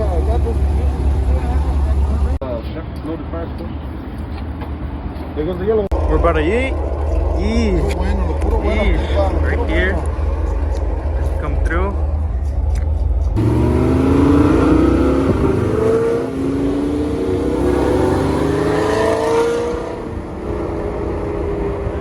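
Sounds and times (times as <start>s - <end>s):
car engine accelerating: 0.0s - 2.4s, 5.9s - 22.0s.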